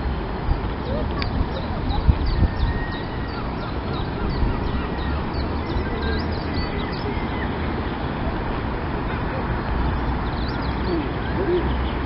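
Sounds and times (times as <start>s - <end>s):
birds chirping: 0.4s - 12.0s.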